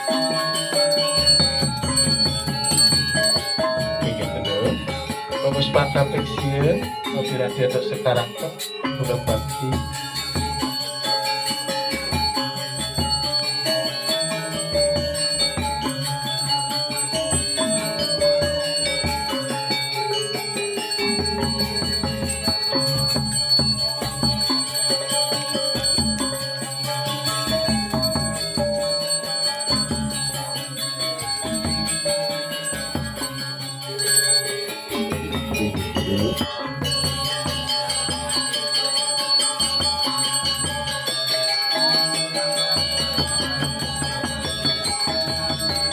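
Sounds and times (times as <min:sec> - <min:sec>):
gamelan music: 0:00.0 - 0:45.9.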